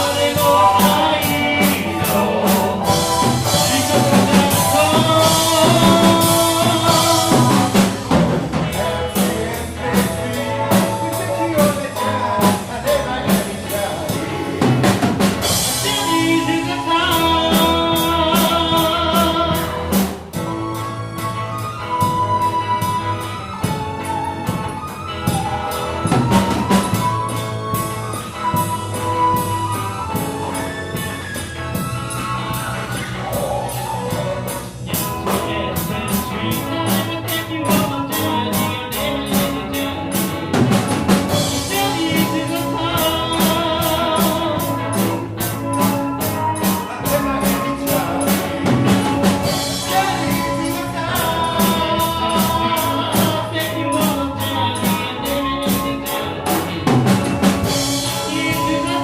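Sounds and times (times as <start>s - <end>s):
drums cymbal beat: 0.0s - 20.8s, 25.3s - 59.0s
live rock band playing: 0.0s - 59.0s.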